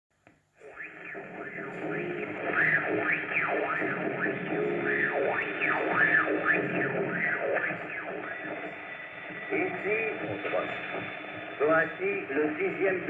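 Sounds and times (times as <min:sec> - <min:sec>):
radio static hiss: 0:00.4 - 0:13.0
radio whistling tones: 0:00.6 - 0:13.0.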